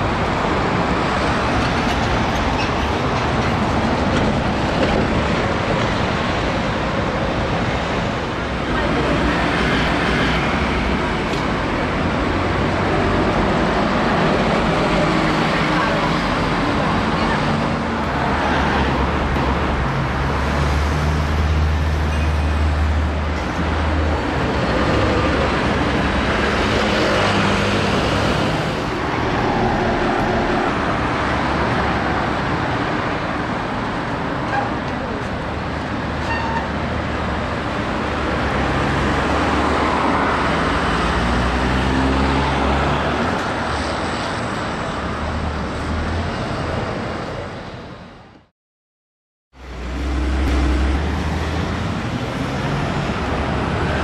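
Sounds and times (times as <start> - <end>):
buses and cars passing: 0.0 - 48.5, 49.6 - 54.0.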